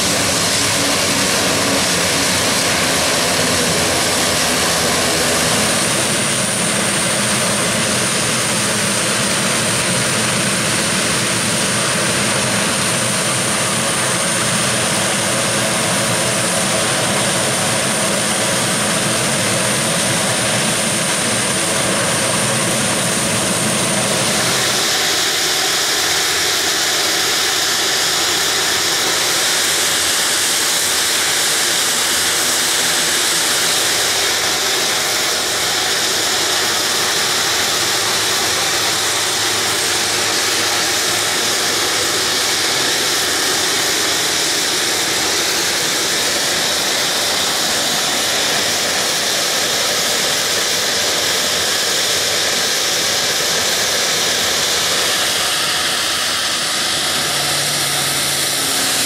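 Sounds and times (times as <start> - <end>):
turboprop engines idling: 0.0 - 59.0.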